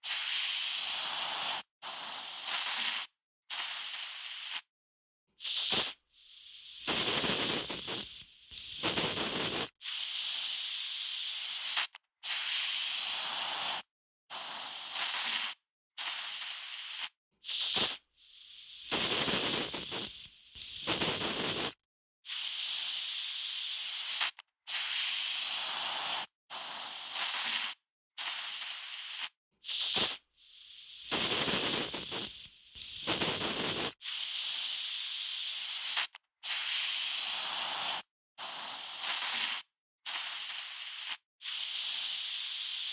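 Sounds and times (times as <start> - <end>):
aerosol spray can hissing: 0.0 - 4.7, 5.4 - 42.9.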